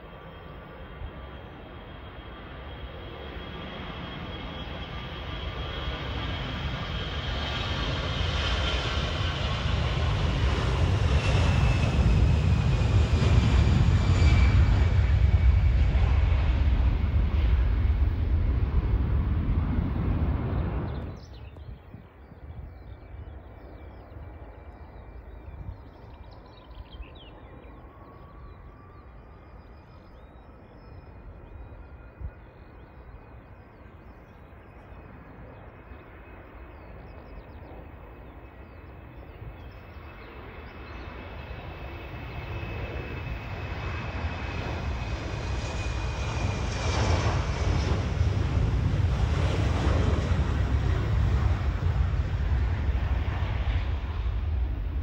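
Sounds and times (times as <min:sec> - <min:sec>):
jet engine high whine: 0:00.0 - 0:55.0.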